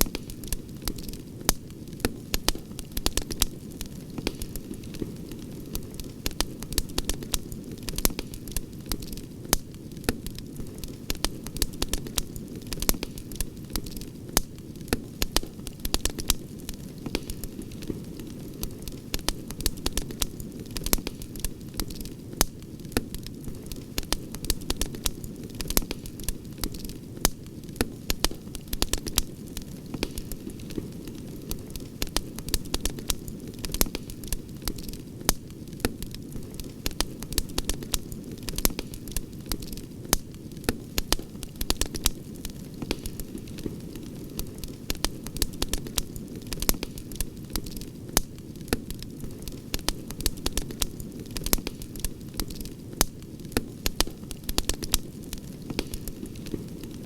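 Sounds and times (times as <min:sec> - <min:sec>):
campfire pops and snaps: 0:00.0 - 0:57.0
low rushing of burning fire: 0:00.0 - 0:57.0.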